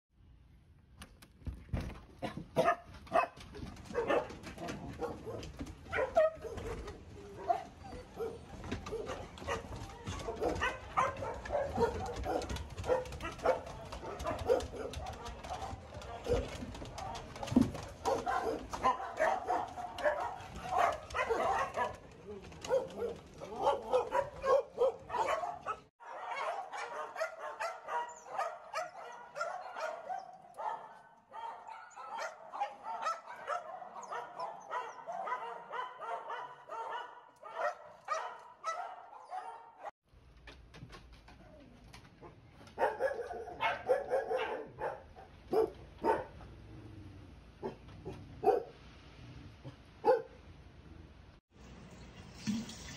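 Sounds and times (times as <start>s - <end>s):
dogs barking and yipping: 2.3s - 39.9s, 42.2s - 46.5s, 47.6s - 48.8s, 50.0s - 50.4s.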